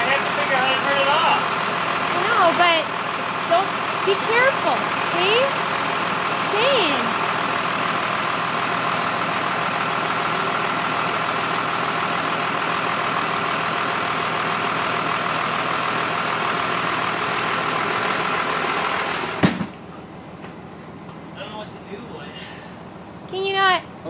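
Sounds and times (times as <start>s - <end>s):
engine stopping with clunk: 0.0s - 22.8s
bus engine idling: 0.0s - 24.0s.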